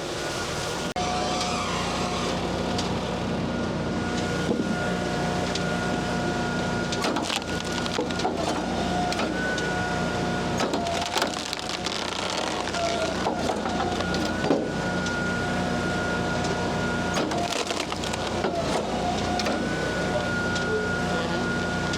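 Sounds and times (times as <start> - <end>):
diesel tractor running with whine: 0.0 - 21.9.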